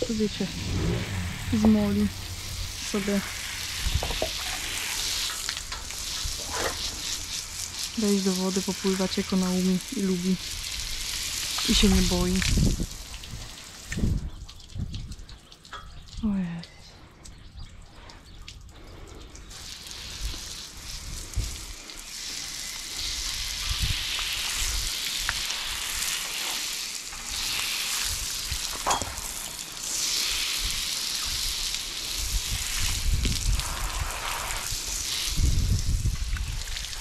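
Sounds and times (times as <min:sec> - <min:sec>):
water hissing from hose nozzle: 0:00.0 - 0:14.9, 0:18.8 - 0:37.0.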